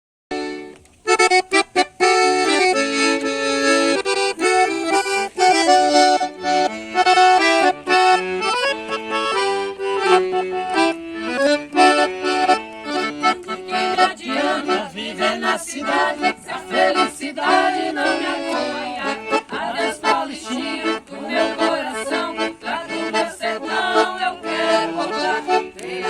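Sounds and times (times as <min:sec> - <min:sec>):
accordion playing: 0:00.3 - 0:26.0.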